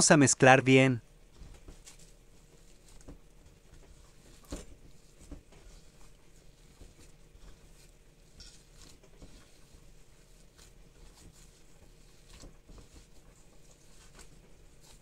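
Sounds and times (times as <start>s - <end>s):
hands kneading dough: 0.1s - 15.0s.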